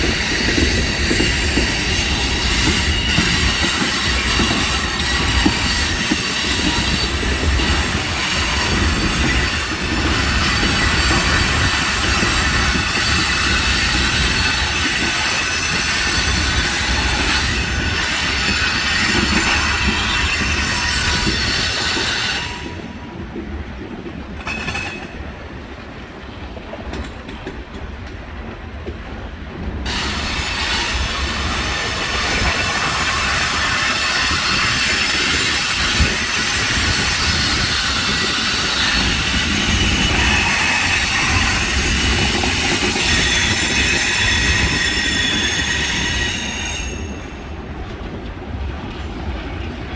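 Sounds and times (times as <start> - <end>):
train wheels squealing: 0.0 - 23.2, 24.4 - 25.3, 29.8 - 47.8
freight train rumble: 0.0 - 49.9.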